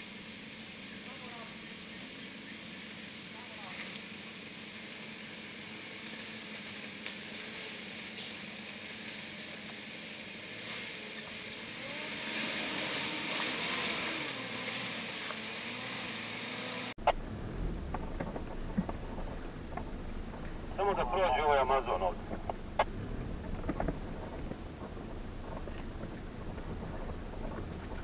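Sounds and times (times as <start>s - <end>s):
low engine rumble: 0.0s - 28.0s
off-road vehicle engine: 0.0s - 28.0s.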